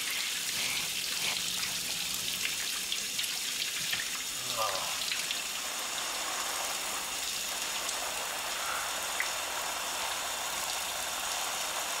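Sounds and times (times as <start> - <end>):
shower water spraying and splashing: 0.0 - 12.0.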